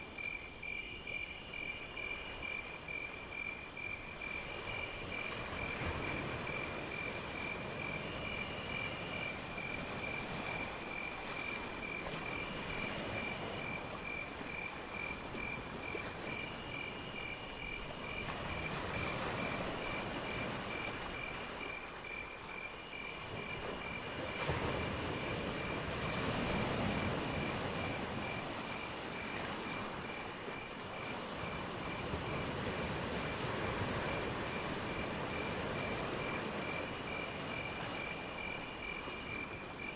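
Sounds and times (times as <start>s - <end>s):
low insect chirp pulsing: 0.0s - 39.9s.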